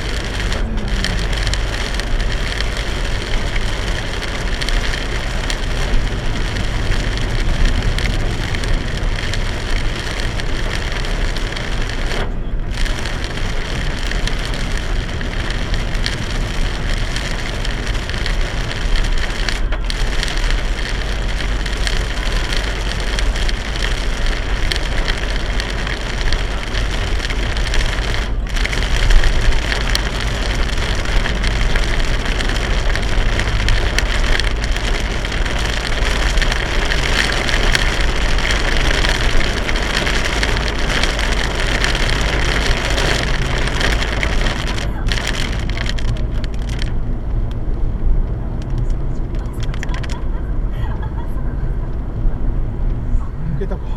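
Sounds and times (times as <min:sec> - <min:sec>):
torrential rain pounding on car: 0:00.0 - 0:53.9
tyre and road noise: 0:00.0 - 0:53.9.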